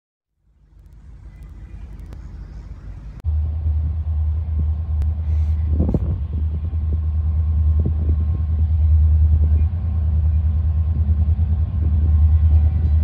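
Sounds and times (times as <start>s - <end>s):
diesel locomotives rumbling: 0.3s - 13.0s.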